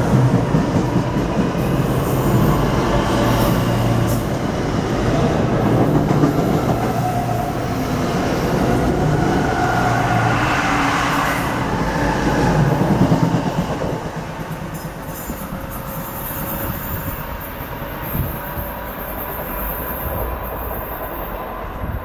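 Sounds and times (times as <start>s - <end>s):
train wheels running on rails: 0.0s - 22.0s.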